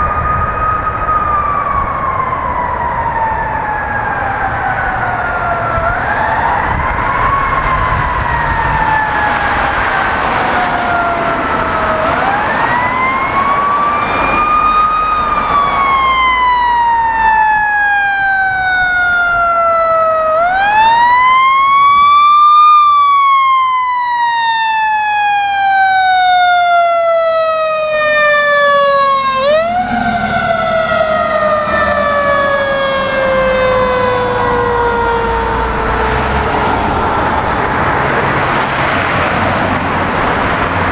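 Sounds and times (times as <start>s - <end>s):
fire engine siren wailing: 0.0s - 40.9s.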